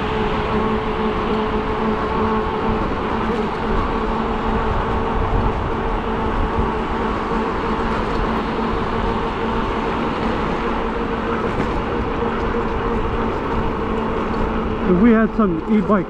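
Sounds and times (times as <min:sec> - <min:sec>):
steady hum: 0:00.0 - 0:16.0
wind rush on microphone: 0:00.0 - 0:16.0.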